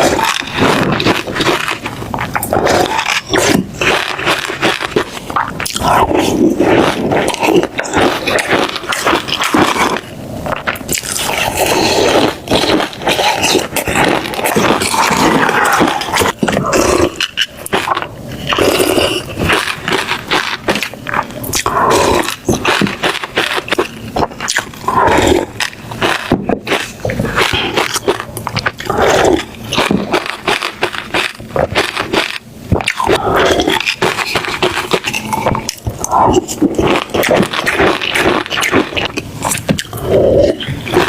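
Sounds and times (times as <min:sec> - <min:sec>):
person chewing and biting: 0:00.0 - 0:41.0
wet mouth clicks: 0:00.0 - 0:41.0.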